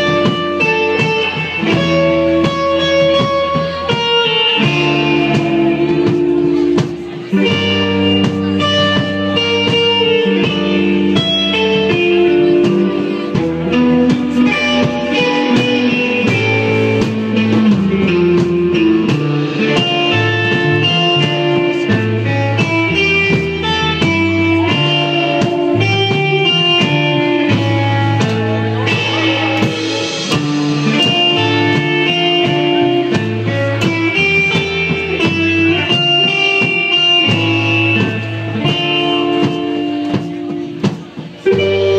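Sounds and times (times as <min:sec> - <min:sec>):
bass line: 0:00.0 - 0:41.9
electric guitar: 0:00.0 - 0:41.9.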